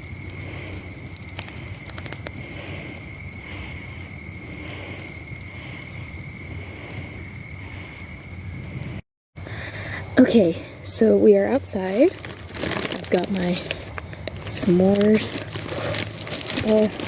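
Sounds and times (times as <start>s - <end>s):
high insect trill: 0.0s - 9.0s, 10.2s - 17.0s
bonfire crackling: 0.0s - 17.0s.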